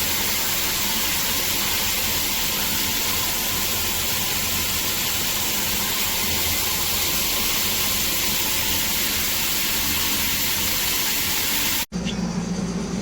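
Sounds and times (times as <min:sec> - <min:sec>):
shower spray hiss: 0:00.0 - 0:11.9.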